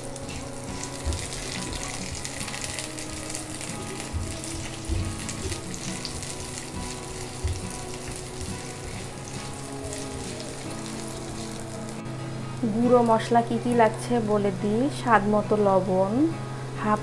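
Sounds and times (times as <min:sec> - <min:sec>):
onions sizzling in oil: 0:00.0 - 0:14.6.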